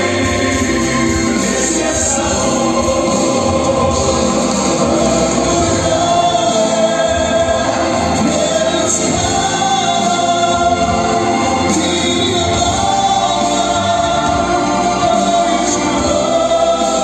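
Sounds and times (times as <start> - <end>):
vocal group singing in harmony: 0.0 - 17.0.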